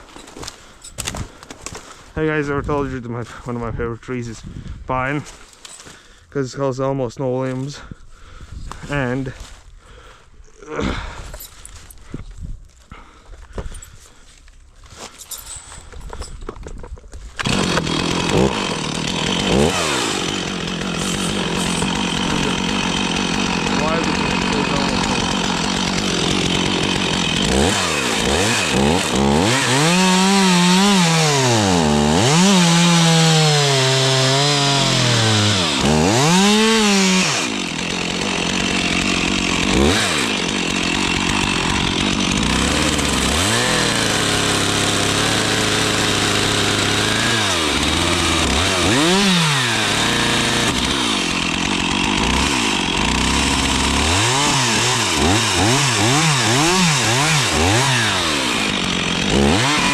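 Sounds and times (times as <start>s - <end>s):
chainsaw cutting wood: 0.0s - 2.0s, 13.0s - 59.9s.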